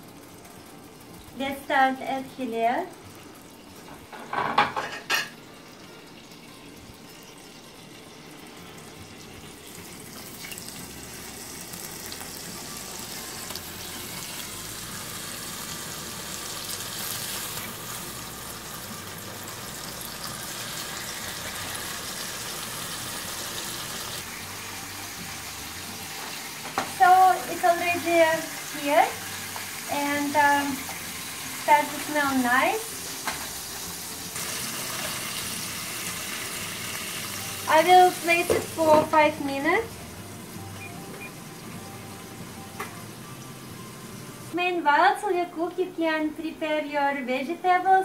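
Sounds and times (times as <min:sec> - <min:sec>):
fish sizzling in a pan: 0:00.0 - 0:40.3.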